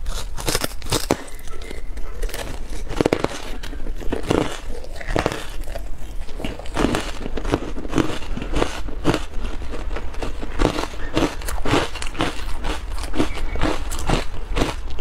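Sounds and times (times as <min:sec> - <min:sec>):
ice crunching while chewed: 0:00.0 - 0:15.0.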